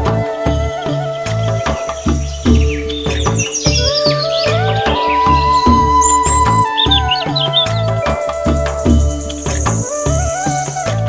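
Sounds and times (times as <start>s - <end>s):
background music with steady beat: 0.0s - 11.0s
high sliding chirp-like tones: 1.6s - 10.9s.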